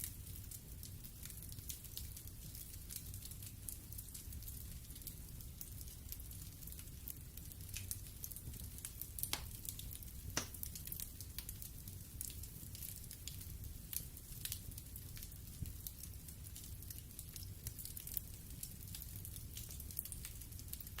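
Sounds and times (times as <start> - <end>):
burning logs crackling and popping: 0.0 - 21.0.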